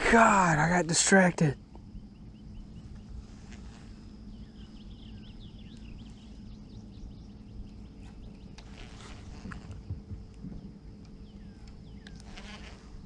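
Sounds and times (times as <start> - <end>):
birds chirping: 0.0 - 13.0
low steady hum: 0.0 - 13.0.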